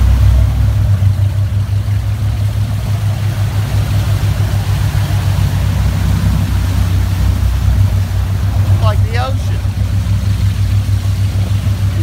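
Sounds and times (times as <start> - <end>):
churning wake water: 0.0 - 12.0
motorboat engine drone: 0.0 - 12.0.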